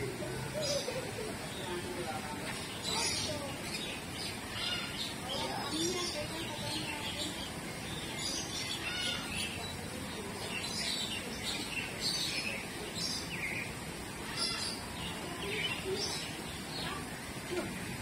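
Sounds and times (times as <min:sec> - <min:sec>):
birds chirping: 0:00.0 - 0:18.0
steady background noise: 0:00.0 - 0:18.0.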